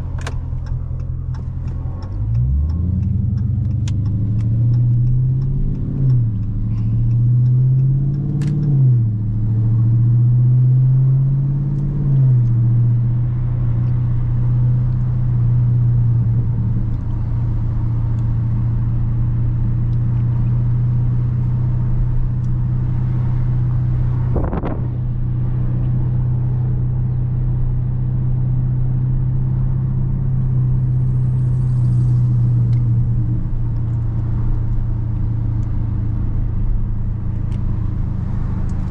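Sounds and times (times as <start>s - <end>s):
car engine through exhaust: 0.0s - 38.9s.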